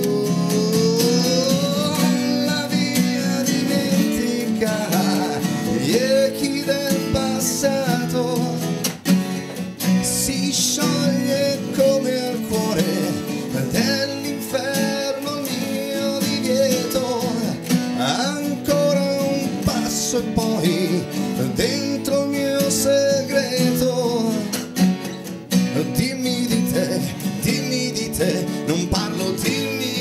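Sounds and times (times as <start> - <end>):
man singing: 0.0 - 9.0, 9.8 - 24.8, 25.5 - 30.0
acoustic guitars strumming: 0.0 - 30.0.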